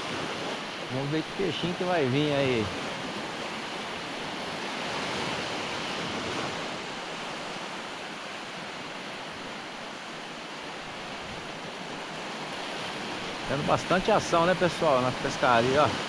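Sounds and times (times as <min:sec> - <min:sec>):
small waves washing on beach: 0:00.0 - 0:16.0.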